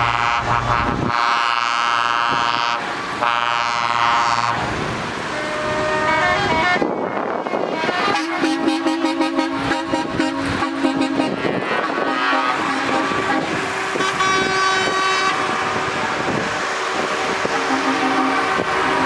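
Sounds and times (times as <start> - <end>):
low two-note truck horn: 0.0 - 4.7, 5.4 - 19.0
higher truck horn blast: 0.0 - 19.0
passing traffic: 0.0 - 19.0.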